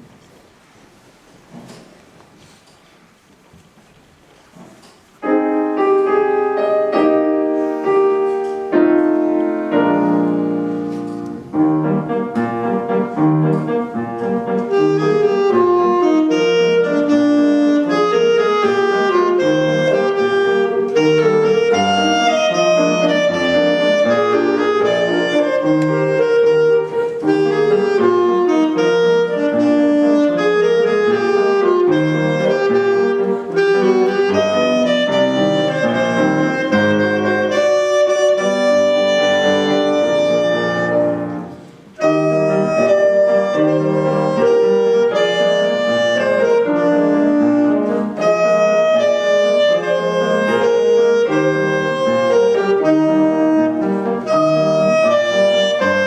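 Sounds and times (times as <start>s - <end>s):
piano chords: 5.1s - 56.0s
solo melody instrument: 5.1s - 56.0s.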